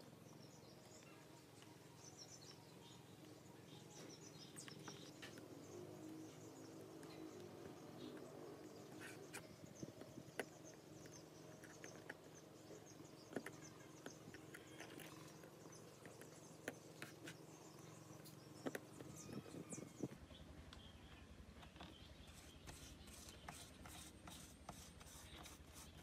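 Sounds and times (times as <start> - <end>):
faint background hum: 0.0 - 26.0.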